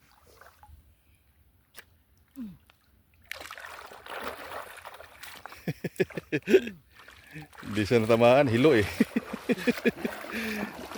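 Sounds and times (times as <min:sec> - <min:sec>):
water splashing and sloshing: 0:00.0 - 0:00.9, 0:01.7 - 0:10.9.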